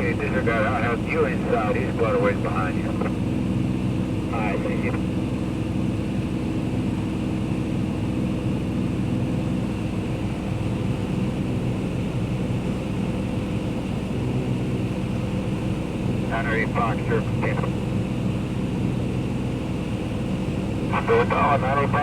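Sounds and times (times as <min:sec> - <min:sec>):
propeller airplane engine droning: 0:00.0 - 0:22.0.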